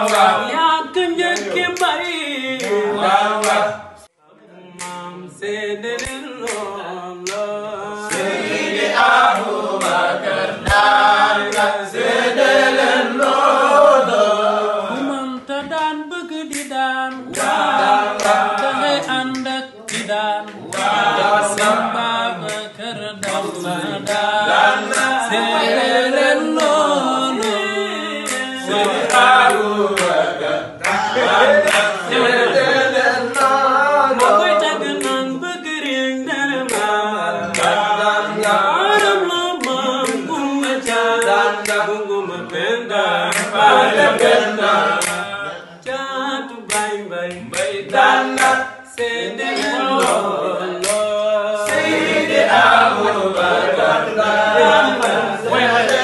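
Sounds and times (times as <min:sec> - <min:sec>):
men singing a cappella: 0:00.0 - 0:56.0.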